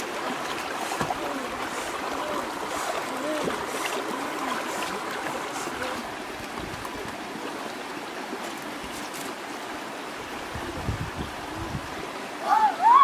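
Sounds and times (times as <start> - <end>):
stream babbling over stones: 0.0 - 13.0.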